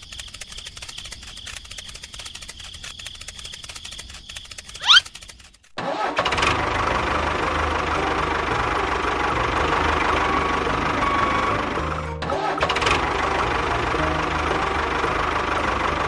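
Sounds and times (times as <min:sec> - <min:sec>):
small motor running: 0:00.0 - 0:05.6, 0:06.5 - 0:16.0.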